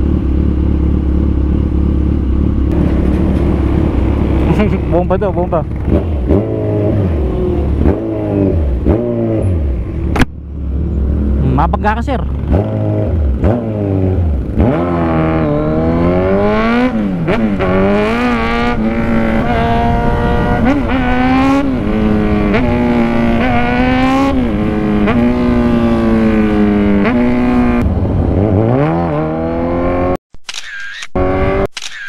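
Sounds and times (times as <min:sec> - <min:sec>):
motorcycle engine accelerating: 0:00.0 - 0:30.2, 0:31.2 - 0:31.7.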